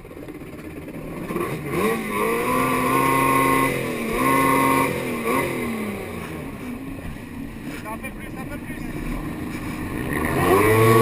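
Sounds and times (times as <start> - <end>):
jet ski engine revving: 0.0 - 11.0.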